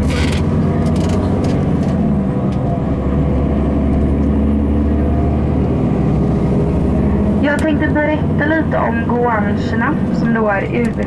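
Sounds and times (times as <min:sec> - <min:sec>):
coach engine drone: 0:00.0 - 0:11.0
road noise: 0:00.0 - 0:11.0.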